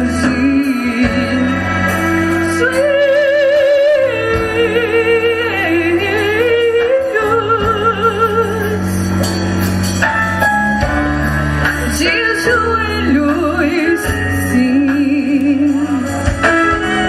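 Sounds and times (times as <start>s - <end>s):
woman singing with vibrato: 0.0s - 9.4s, 11.7s - 17.0s.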